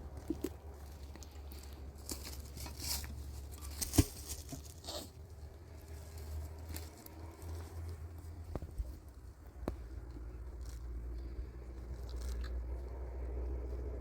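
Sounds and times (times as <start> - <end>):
rustling and scraping handling: 0.0 - 12.4
steady low hum: 0.0 - 14.0.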